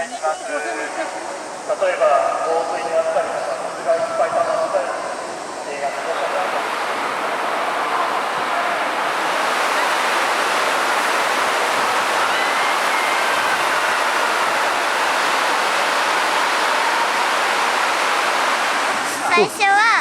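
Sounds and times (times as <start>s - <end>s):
torrential rain downpour: 0.0s - 20.0s.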